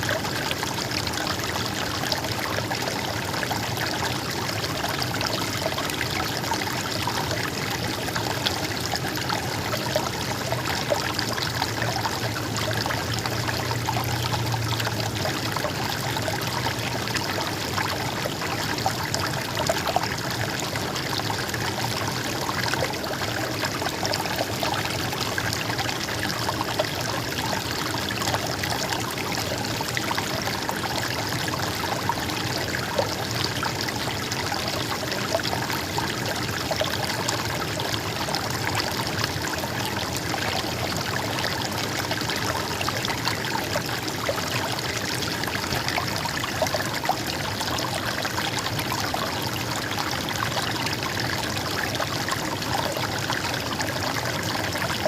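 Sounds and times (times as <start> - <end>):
stream trickling over stones: 0.0 - 55.0.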